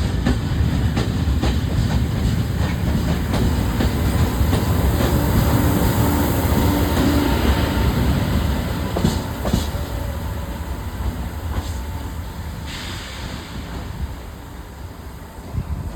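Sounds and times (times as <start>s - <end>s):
train rumbling on rails: 0.0s - 15.9s.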